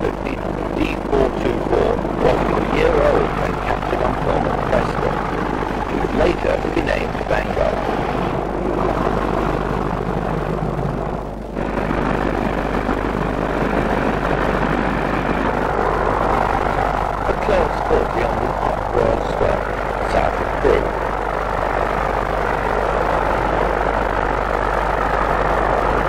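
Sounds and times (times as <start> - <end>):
locomotive running: 0.0 - 9.4, 10.5 - 26.0.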